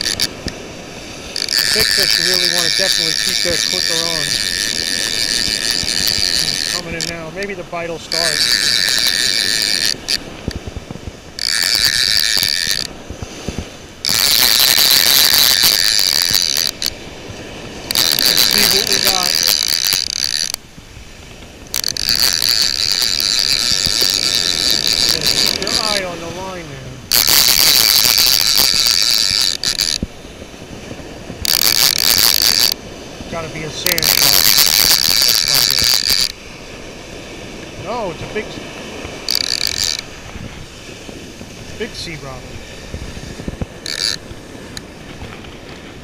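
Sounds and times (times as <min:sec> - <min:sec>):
fishing reel clicker ratcheting: 0:00.0 - 0:30.1, 0:31.4 - 0:32.9, 0:33.5 - 0:36.4, 0:39.0 - 0:40.4, 0:43.4 - 0:44.9.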